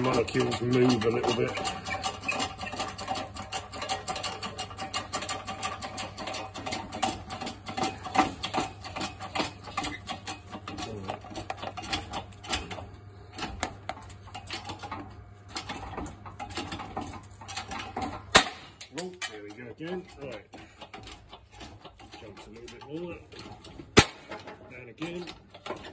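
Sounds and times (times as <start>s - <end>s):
rapid irregular clicking and tapping: 0.0s - 25.9s.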